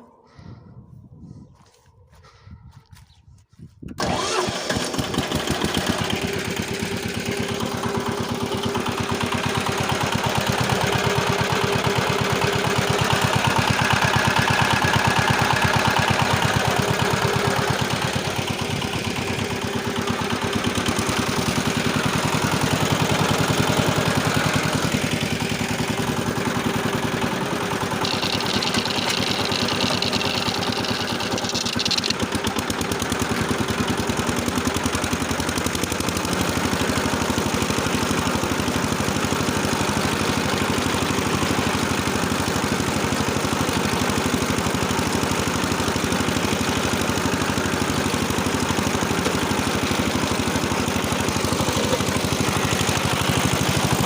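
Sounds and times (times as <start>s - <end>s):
tractor engine running: 3.6s - 54.0s.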